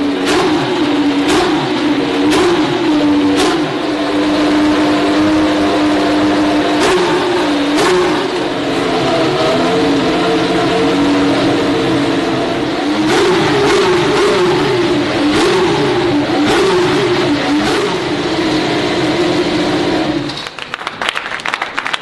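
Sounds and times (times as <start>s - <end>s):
race car engine idling: 0.0s - 22.0s.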